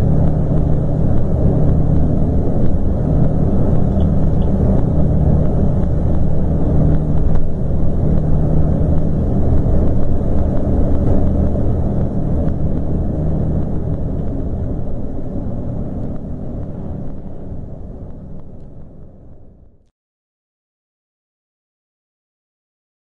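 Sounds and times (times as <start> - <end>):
diesel engine droning: 0.0 - 19.8.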